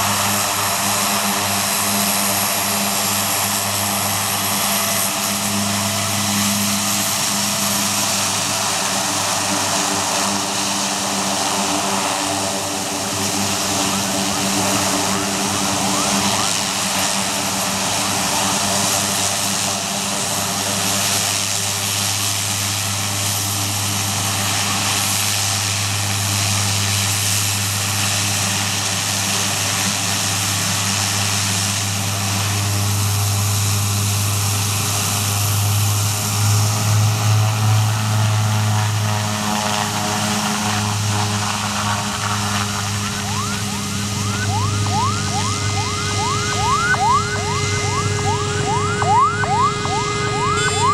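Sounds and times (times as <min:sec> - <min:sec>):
turboprop engines droning: 0:00.0 - 0:50.9.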